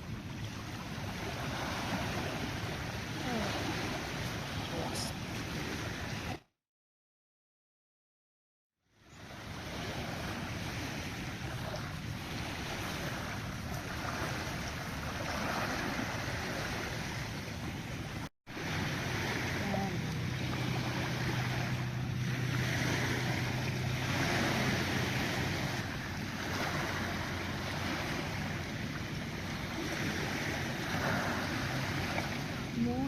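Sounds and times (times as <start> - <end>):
waves: 0.0 - 6.5, 8.8 - 33.0.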